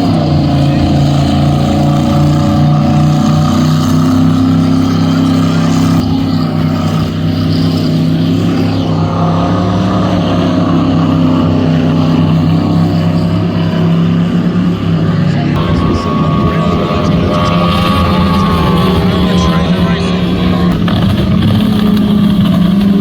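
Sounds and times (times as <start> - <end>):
powerboat engine running: 0.0 - 23.0.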